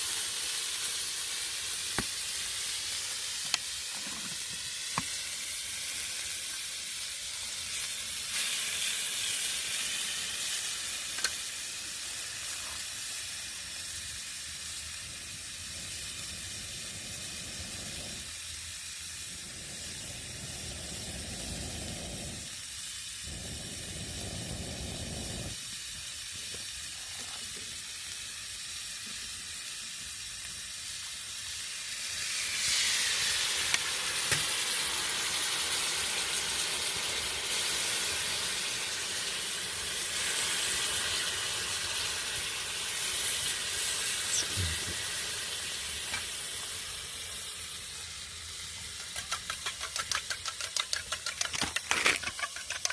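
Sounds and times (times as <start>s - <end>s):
food sizzling and frying: 0.0s - 52.9s.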